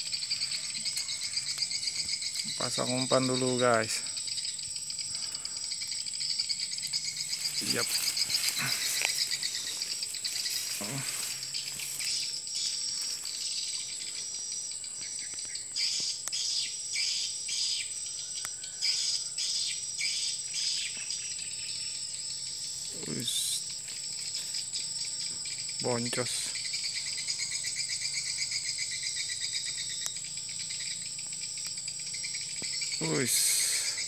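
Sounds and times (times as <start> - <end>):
insects high-pitched whine: 0.0 - 34.0
insects pulsing trills: 0.0 - 34.0.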